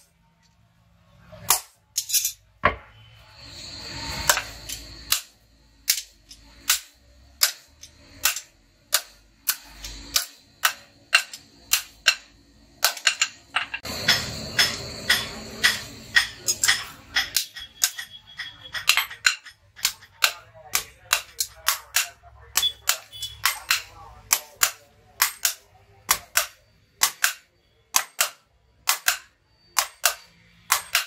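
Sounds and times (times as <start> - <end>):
hammer striking hot metal on anvil: 1.4 - 1.8, 4.0 - 31.0.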